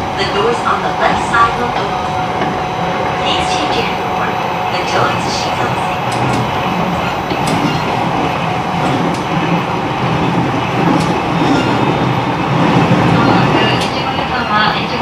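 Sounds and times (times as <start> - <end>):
train wheels rumbling on rail: 0.0 - 15.0
rail joint clicks: 0.4 - 15.0.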